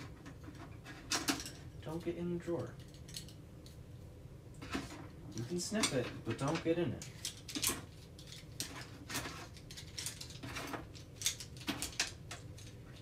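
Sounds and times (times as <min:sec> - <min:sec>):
small items clattering in a drawer: 0:00.0 - 0:03.4, 0:04.6 - 0:13.0.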